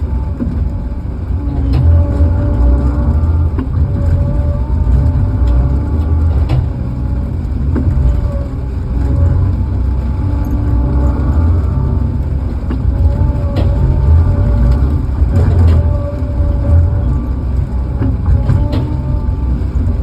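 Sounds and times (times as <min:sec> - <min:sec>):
diesel engine running: 0:00.0 - 0:20.0
high engine whine: 0:00.0 - 0:20.0.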